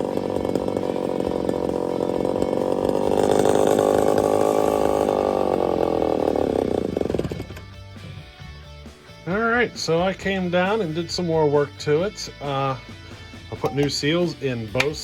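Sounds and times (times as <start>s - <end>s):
chainsaw engine running: 0.0s - 9.2s, 9.9s - 15.0s.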